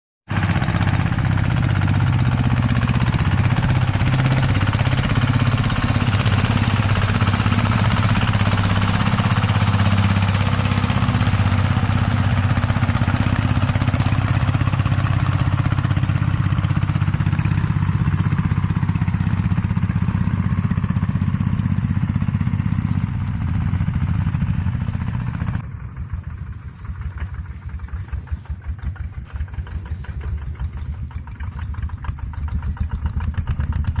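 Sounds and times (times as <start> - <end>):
farm machine engine running: 0.3 - 34.0.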